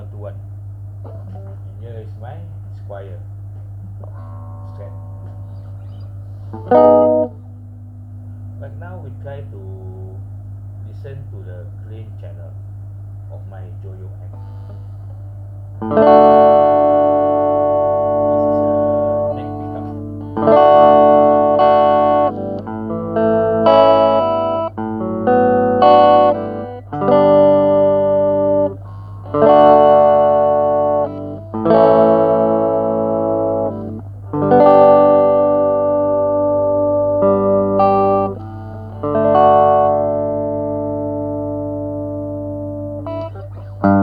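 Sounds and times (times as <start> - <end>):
amp hum: 0.0 - 44.0
clean electric guitar chords strummed: 1.0 - 2.3, 2.9 - 10.3, 14.2 - 44.0.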